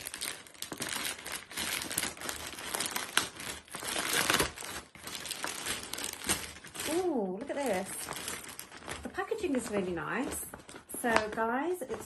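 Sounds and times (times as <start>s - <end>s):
plastic mailing bag crinkling: 0.0s - 12.0s.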